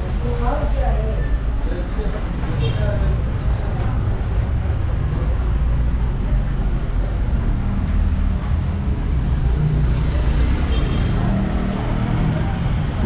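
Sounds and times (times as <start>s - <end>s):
motor vehicle rumble on road: 0.0s - 13.0s.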